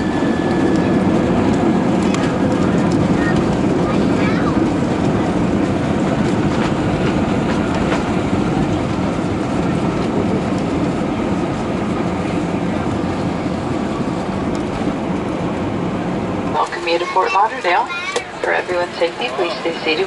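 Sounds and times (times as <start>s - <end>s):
aircraft wheels and engines rumbling: 0.0s - 20.0s.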